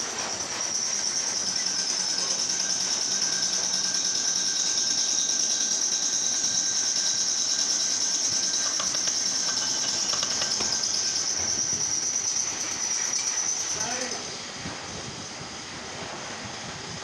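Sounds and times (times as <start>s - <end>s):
high-pitched workshop hiss: 0.0s - 17.0s.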